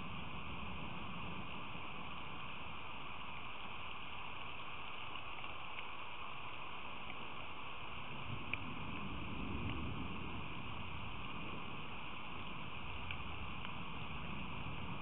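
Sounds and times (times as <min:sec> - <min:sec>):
steady rain hiss: 0:00.0 - 0:15.0
raindrops ticking: 0:00.1 - 0:15.0.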